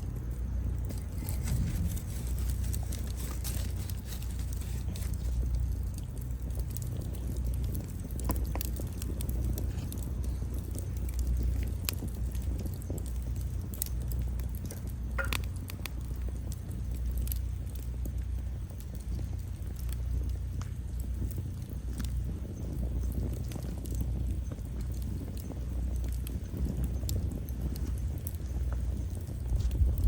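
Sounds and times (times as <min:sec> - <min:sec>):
firewood crackling and popping: 0:00.0 - 0:30.0
low steady fire rumble: 0:00.0 - 0:30.0.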